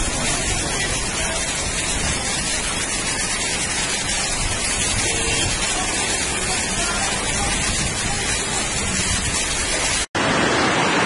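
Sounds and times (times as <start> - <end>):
running floodwater: 0.0 - 11.0
torrential rain pouring: 0.0 - 11.0.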